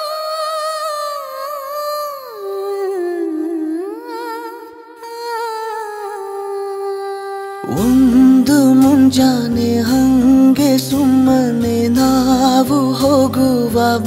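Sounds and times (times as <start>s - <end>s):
person humming a slow melody: 1.5s - 14.0s.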